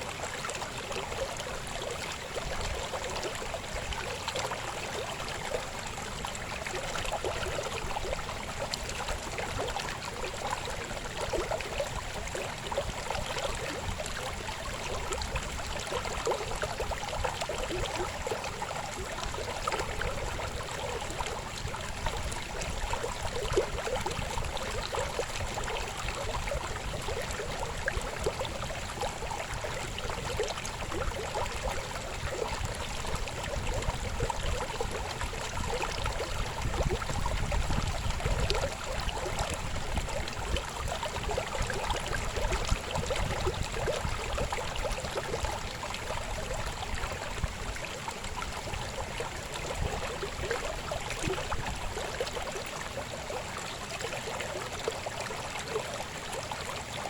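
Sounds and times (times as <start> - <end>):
river babbling and gurgling: 0.0 - 57.0.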